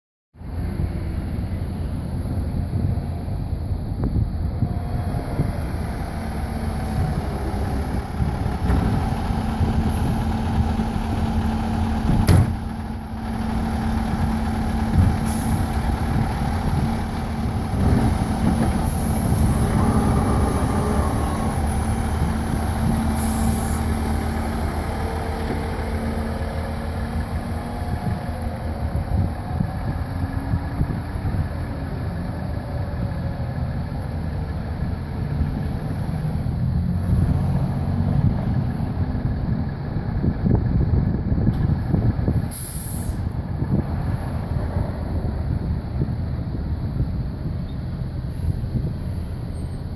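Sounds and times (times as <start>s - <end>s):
diesel engine running: 0.4s - 49.9s.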